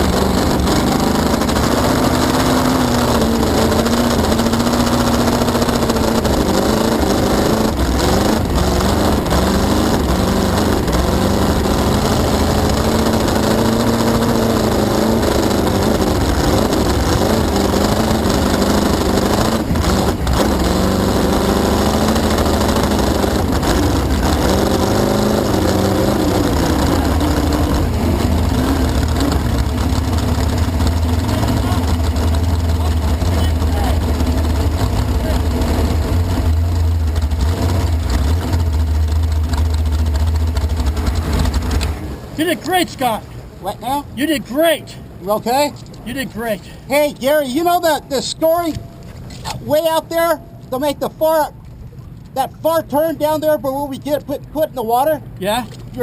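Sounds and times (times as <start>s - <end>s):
rushing water noise: 0.0s - 54.1s
boat engine running hard: 0.0s - 56.0s.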